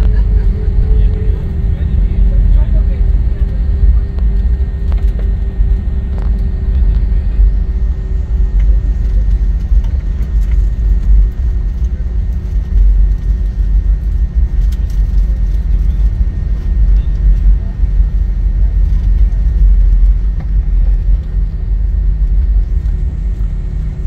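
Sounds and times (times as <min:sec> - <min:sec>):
airliner engine rumble: 0:00.0 - 0:24.0
faint steady hum: 0:00.0 - 0:24.0.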